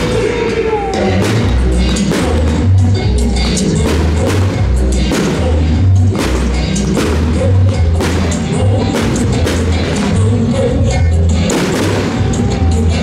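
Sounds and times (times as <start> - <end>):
music with drum beat and bass: 0.0 - 13.0.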